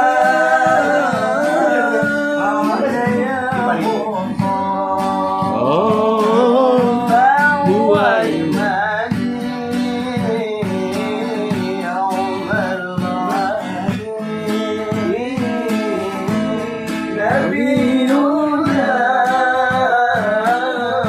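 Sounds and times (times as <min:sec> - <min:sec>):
acoustic guitar: 0:00.0 - 0:21.0
person singing slow melody: 0:00.0 - 0:21.0.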